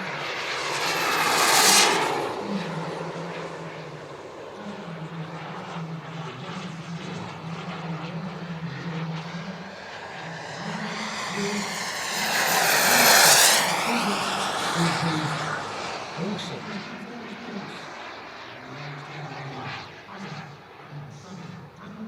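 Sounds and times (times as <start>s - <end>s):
high turbine whine: 0.0s - 22.0s
jet engines rushing: 0.0s - 22.0s.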